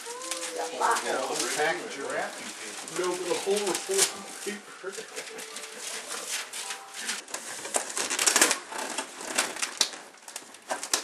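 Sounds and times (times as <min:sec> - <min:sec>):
wrapping paper ripping and crinkling: 0:00.0 - 0:11.0.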